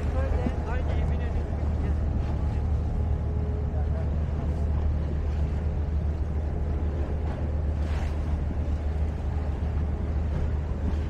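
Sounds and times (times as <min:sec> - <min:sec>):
steady low rumble: 0:00.0 - 0:11.0
waves washing: 0:00.0 - 0:11.0.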